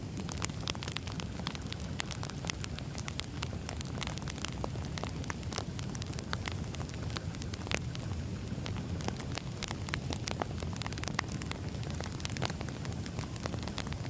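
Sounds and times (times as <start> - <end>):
low rumble of burning logs: 0.0 - 14.0
sharp pops and snaps: 0.0 - 14.0
wood fire crackling: 0.0 - 14.0.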